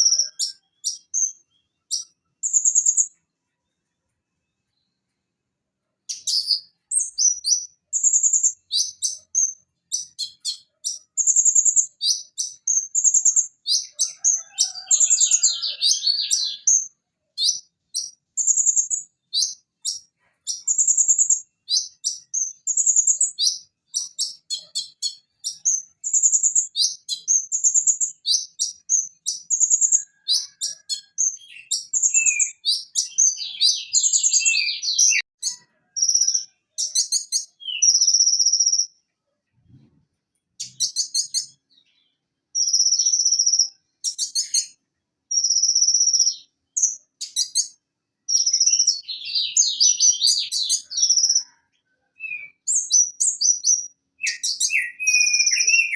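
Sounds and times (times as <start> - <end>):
sunbird singing: 0.0 - 3.2, 6.1 - 38.9, 40.6 - 55.9.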